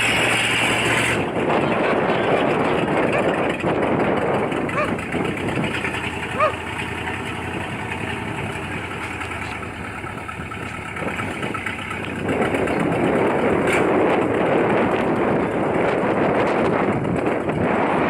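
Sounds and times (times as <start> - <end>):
pickup engine running: 0.0 - 18.0.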